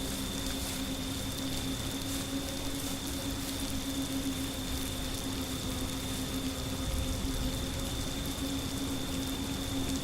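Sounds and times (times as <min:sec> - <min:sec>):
constant low hum: 0:00.0 - 0:10.0
faint high whine: 0:00.0 - 0:10.0
steady hiss: 0:00.0 - 0:10.0.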